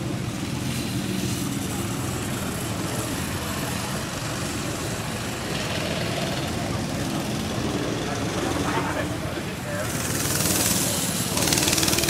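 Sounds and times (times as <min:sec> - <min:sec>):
go-kart engines droning: 0:00.0 - 0:12.0
noisy rush: 0:00.0 - 0:12.0.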